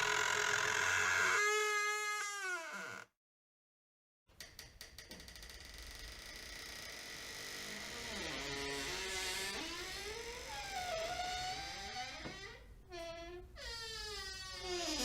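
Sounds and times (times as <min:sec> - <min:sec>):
squeaky door hinge creaking: 0:00.0 - 0:03.1, 0:05.1 - 0:15.0.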